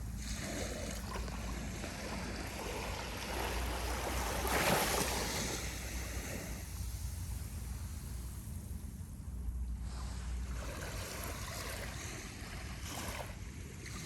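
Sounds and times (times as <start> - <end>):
gentle ocean waves lapping: 0.0 - 14.0.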